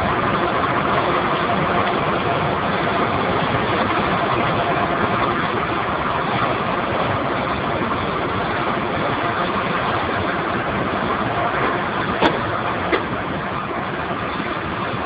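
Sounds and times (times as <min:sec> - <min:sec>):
boiler burner and blower running: 0:00.0 - 0:15.0.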